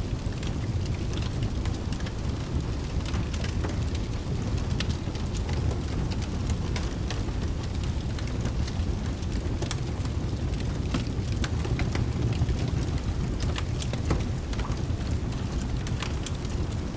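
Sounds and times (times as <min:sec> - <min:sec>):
fire crackles: 0:00.0 - 0:16.9
low fireplace rumble: 0:00.0 - 0:16.9
steady rain: 0:00.0 - 0:16.9.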